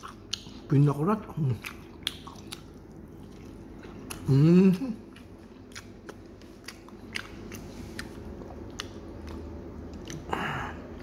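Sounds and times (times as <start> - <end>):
person chewing food: 0.0 - 0.8, 1.4 - 11.0.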